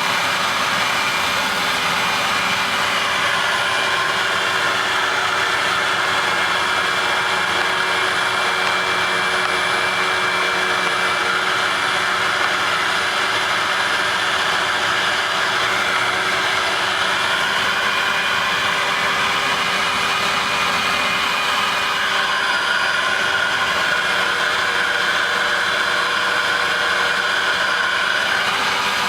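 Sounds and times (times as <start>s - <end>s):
vacuum cleaner motor running: 0.0s - 29.0s.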